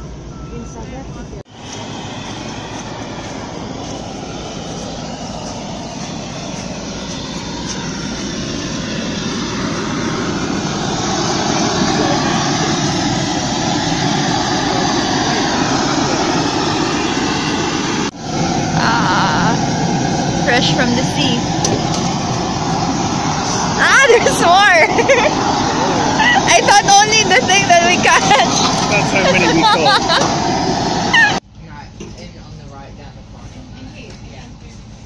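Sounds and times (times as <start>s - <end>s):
gas burner roaring: 1.4s - 31.4s.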